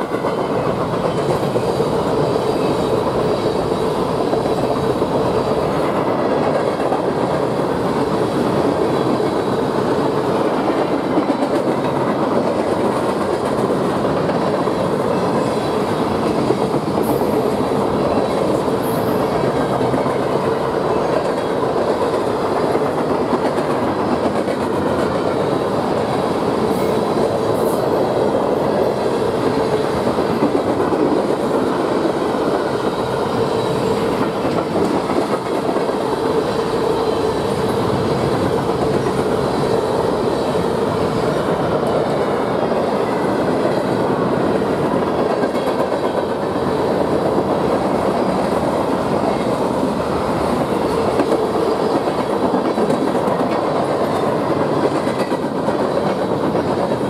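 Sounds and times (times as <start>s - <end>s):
train cars rumbling past: 0.0s - 57.0s.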